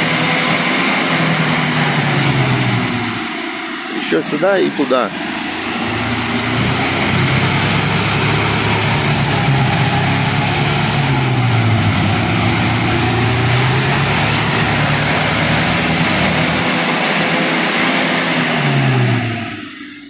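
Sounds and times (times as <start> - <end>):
vehicle engine straining: 0.0 - 20.0.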